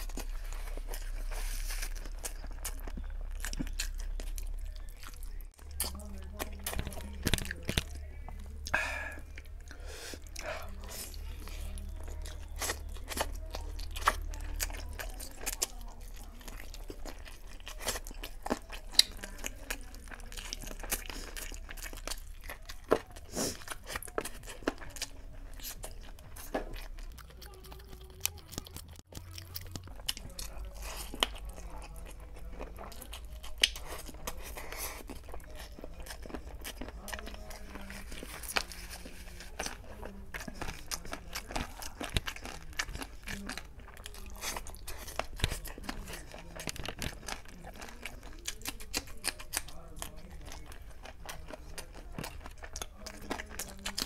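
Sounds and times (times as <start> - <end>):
close chewing with mouth smacks: 0.0 - 54.0
low steady hum: 0.0 - 54.0.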